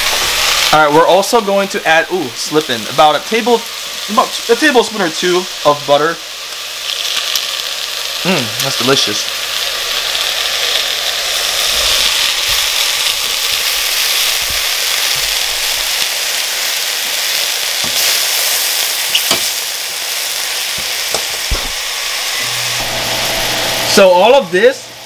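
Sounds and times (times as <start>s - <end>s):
mushrooms sizzling in oil: 0.0s - 25.0s.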